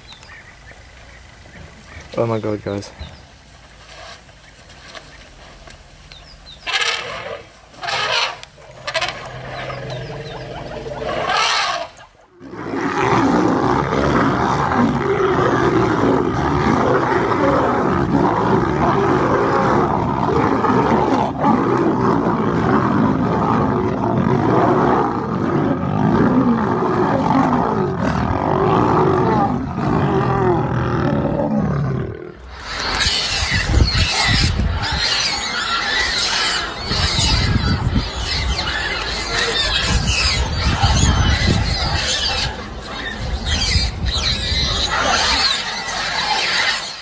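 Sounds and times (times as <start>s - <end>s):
wild animals roaring and snarling: 6.6s - 47.0s.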